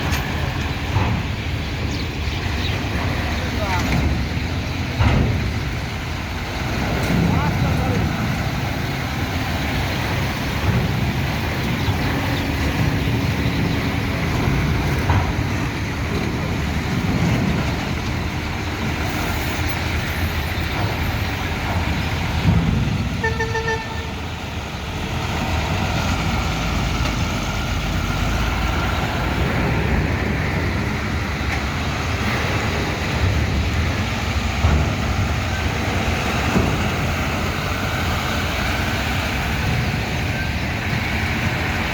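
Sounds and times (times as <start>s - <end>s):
heavy engines running: 0.0s - 41.9s.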